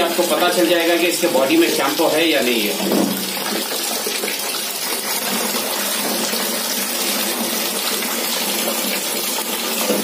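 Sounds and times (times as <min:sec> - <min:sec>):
water splashing into plastic tub: 0:00.0 - 0:10.0.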